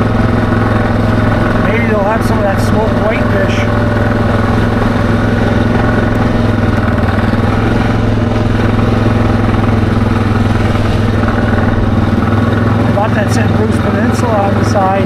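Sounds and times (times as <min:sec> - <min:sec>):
atv engine drone: 0:00.0 - 0:15.0.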